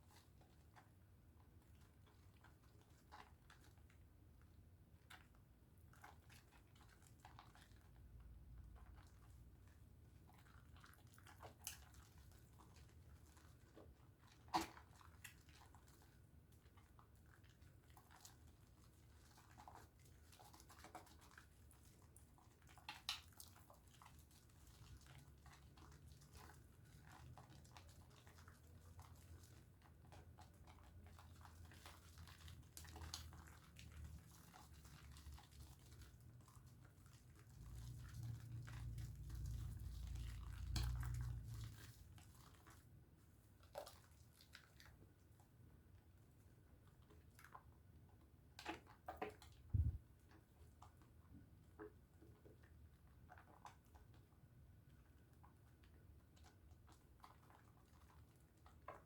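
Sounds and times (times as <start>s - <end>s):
wet crackling of soap lathering: 0.0s - 59.0s.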